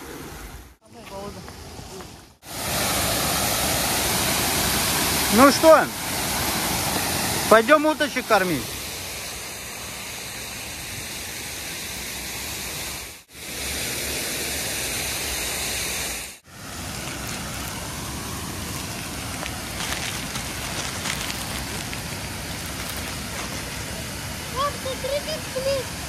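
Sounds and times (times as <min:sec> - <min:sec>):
waterfall roaring: 0:01.9 - 0:26.0.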